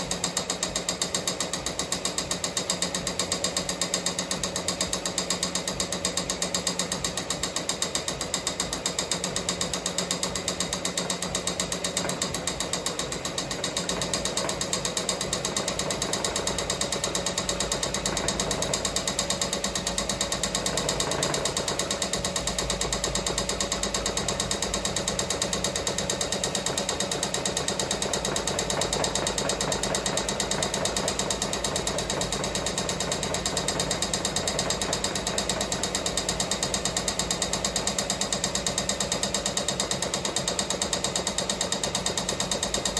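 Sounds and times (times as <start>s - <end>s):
embroidery machine stitching: 0.0s - 42.9s.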